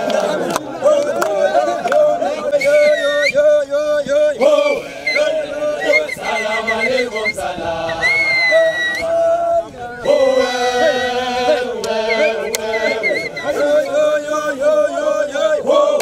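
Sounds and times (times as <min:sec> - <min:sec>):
men singing a chant: 0:00.0 - 0:16.0.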